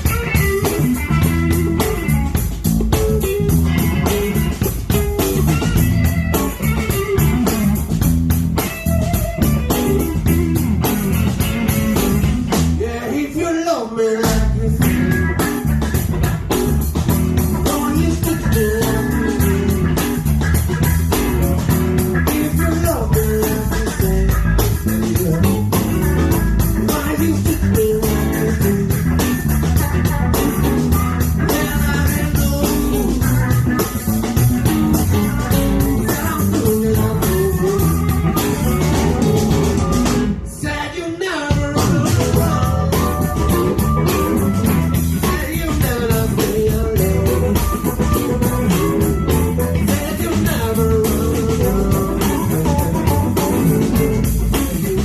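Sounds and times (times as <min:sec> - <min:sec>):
blues band playing live: 0:00.0 - 0:55.0.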